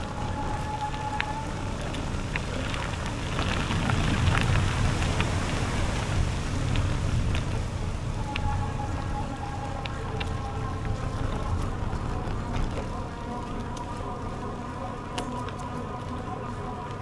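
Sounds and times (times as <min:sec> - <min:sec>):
bicycle tyres crackling on trail: 0:00.0 - 0:17.0
wind rumble on microphone: 0:00.0 - 0:17.0.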